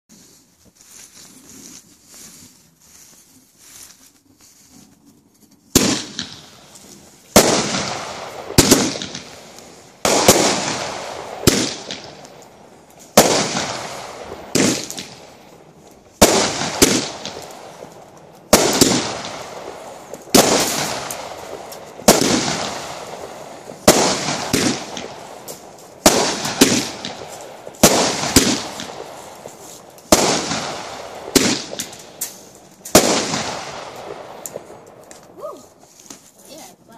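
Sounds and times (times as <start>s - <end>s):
fireworks bangs: 5.7s - 36.2s.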